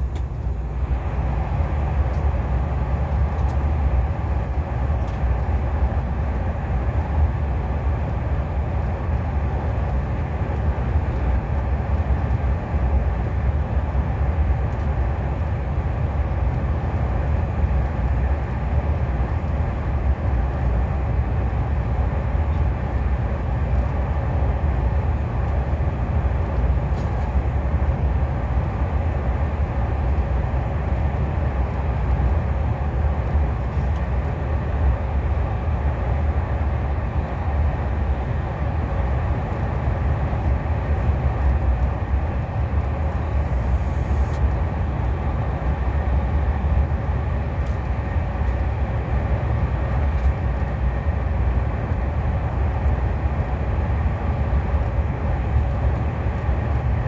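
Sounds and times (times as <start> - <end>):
train interior deep rumble: 0.0 - 57.0.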